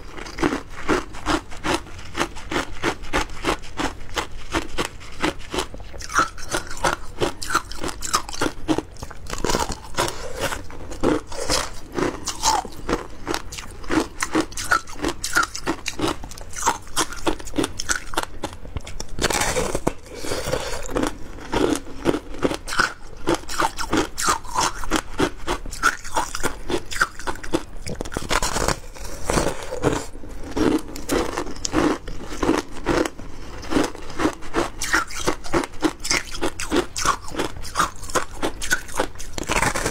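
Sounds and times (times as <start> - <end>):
chewing crunchy shaved ice: 0.0 - 39.9.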